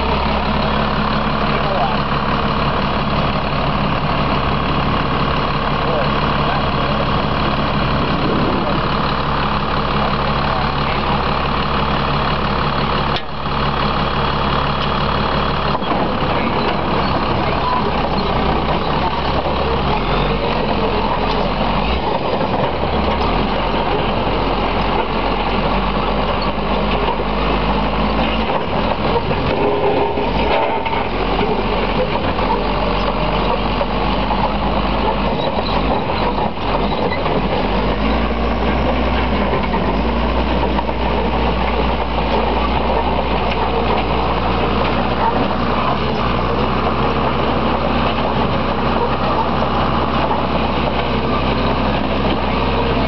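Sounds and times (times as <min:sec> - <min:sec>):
dozer diesel engine running: 0:00.0 - 0:53.0.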